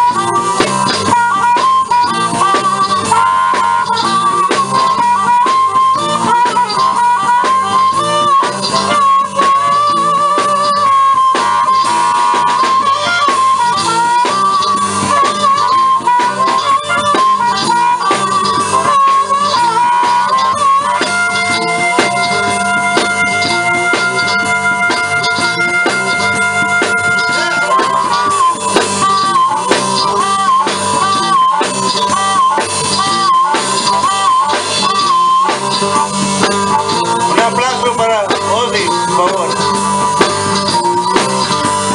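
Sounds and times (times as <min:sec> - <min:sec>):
blues guitar: 0:00.0 - 0:41.9
harmonica solo: 0:00.0 - 0:41.9.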